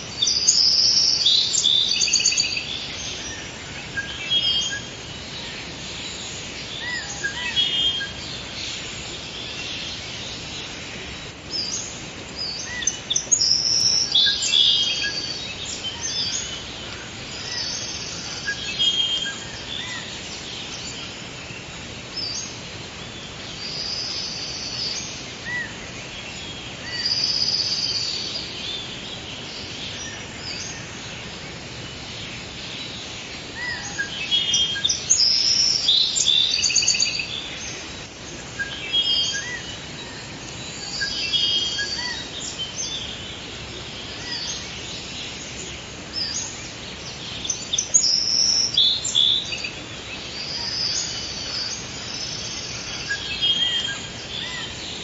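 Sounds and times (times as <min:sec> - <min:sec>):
birds singing and chirping: 0:00.0 - 0:55.0
steady background hiss: 0:00.0 - 0:55.0.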